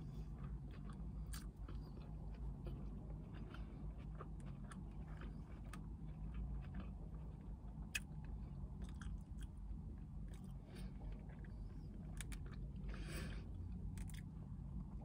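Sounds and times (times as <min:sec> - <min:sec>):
low steady hum: 0:00.0 - 0:15.0
person chewing food: 0:00.0 - 0:15.0.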